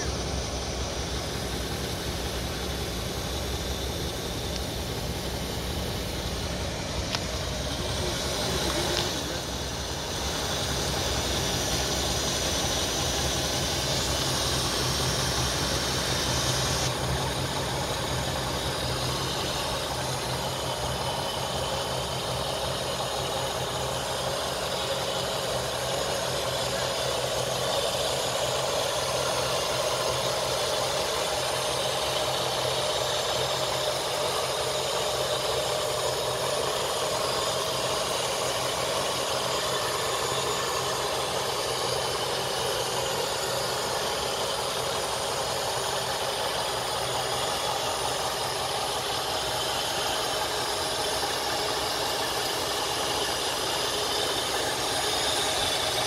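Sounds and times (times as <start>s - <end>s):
car engine idling: 0.0s - 56.0s
hiss: 0.0s - 56.0s.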